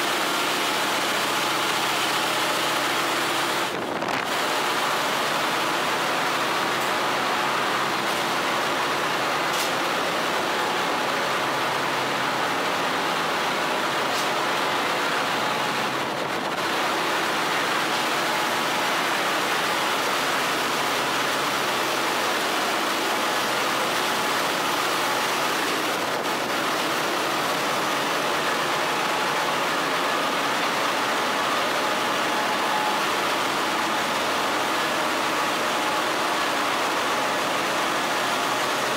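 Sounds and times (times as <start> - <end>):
diesel engine room machinery din: 0.0 - 38.9.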